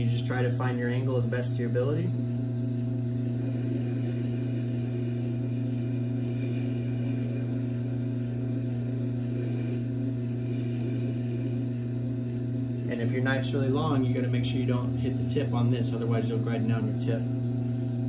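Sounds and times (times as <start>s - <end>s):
sharpening machine motor hum: 0.0s - 18.0s.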